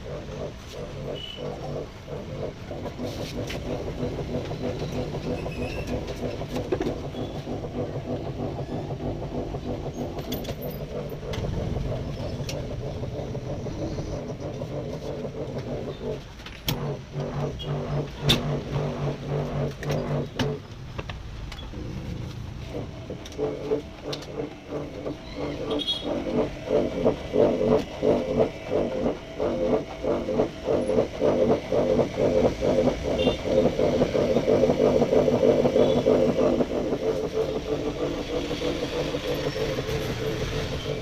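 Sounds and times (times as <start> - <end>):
knocks and rattles: 0.0 - 41.0
washing machine motor hum: 0.0 - 41.0.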